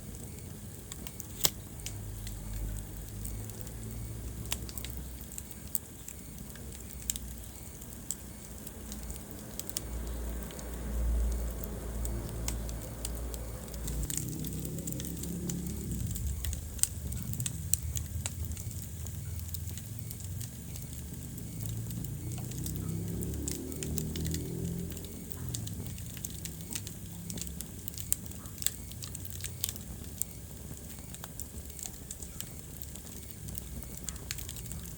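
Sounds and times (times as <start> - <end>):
fire low rumble: 0.0 - 34.9
wood fire crackling and popping: 0.0 - 34.9.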